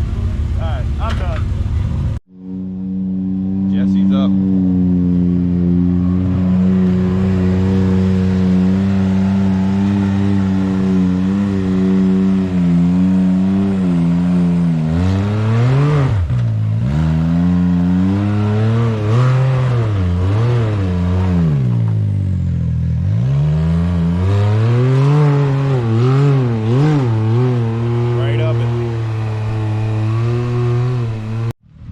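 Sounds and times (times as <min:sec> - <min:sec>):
off-road vehicle engine revving: 0:00.0 - 0:31.9.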